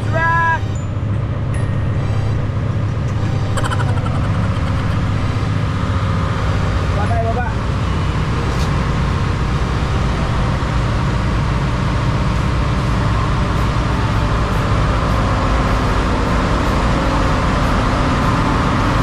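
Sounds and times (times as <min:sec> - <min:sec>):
engine room machinery drone: 0:00.0 - 0:19.0.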